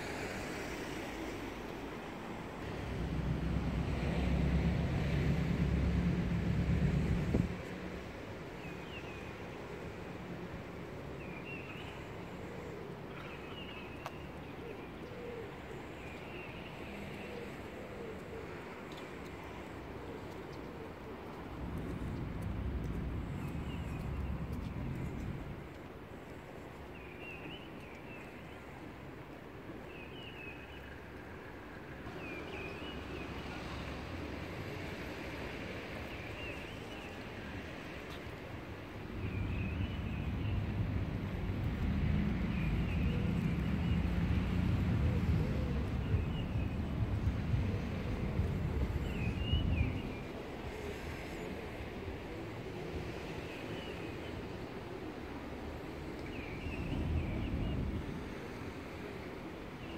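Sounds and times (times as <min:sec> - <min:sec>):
distant traffic rumble: 0:00.0 - 0:59.9.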